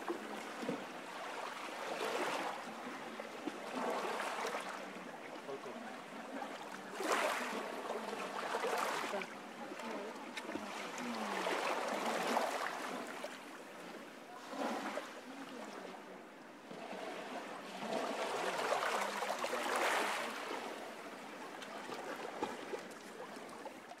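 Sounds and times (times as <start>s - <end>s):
ocean waves breaking on shore: 0.0s - 9.6s, 10.4s - 15.9s, 16.6s - 22.7s.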